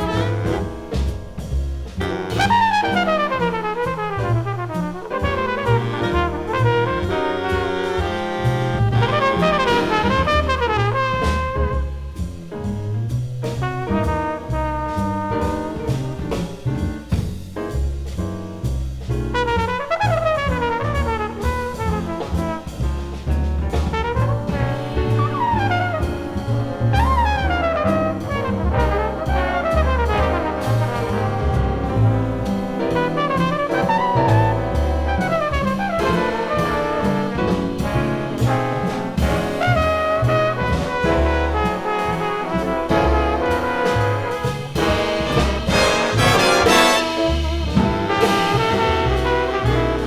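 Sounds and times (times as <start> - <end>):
big band jazz: 0.0 - 50.0.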